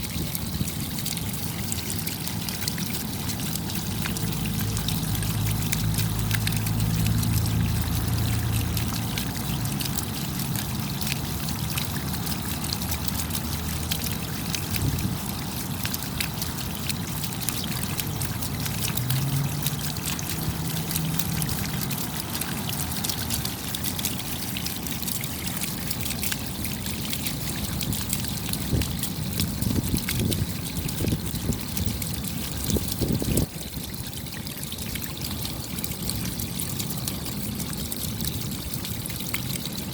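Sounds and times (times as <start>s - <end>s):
rain falling: 3.0s - 39.9s.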